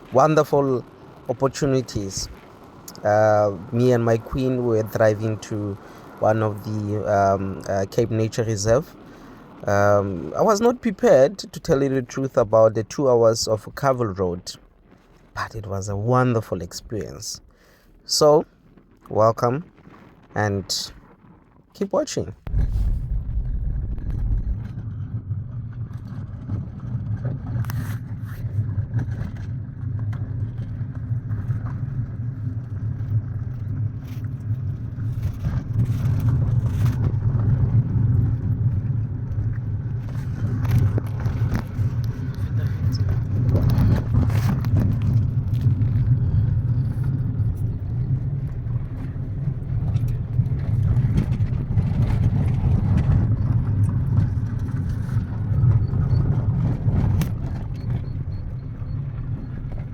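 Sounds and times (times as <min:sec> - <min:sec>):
car engine and tyres rumbling: 0:00.0 - 0:59.9
gravel clicks and knocks: 0:00.0 - 0:59.9.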